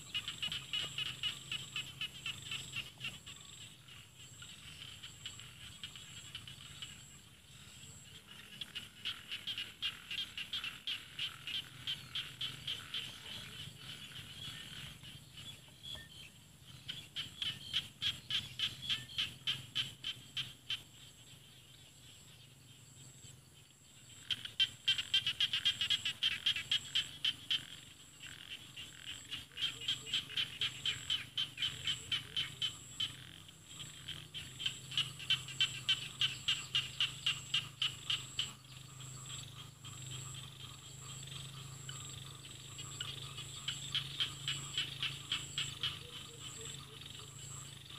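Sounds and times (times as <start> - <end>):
frogs calling in clicking trains: 0.0 - 47.9.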